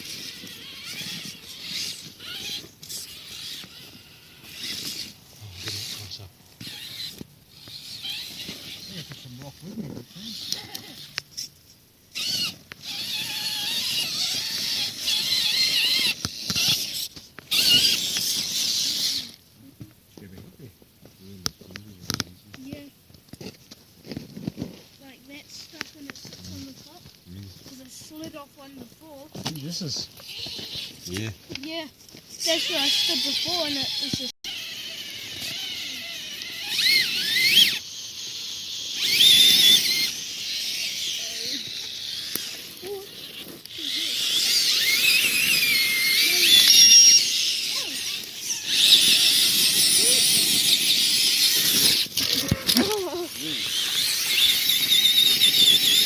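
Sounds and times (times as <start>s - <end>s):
toy truck electric motor whining: 0.0s - 19.4s, 22.6s - 56.0s.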